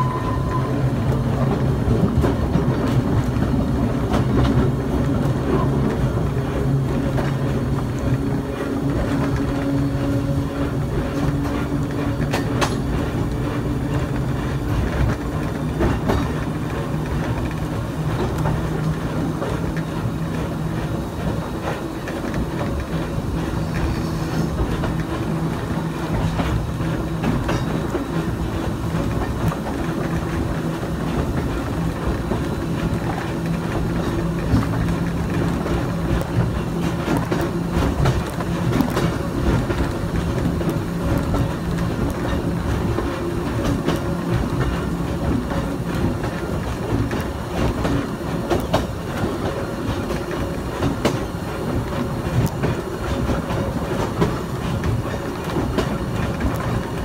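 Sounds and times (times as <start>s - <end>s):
wheels clicking over rail joints: 0.0s - 24.0s, 24.6s - 57.0s
streetcar low hum: 0.0s - 57.0s
wheel-on-rail rumble: 0.0s - 57.0s.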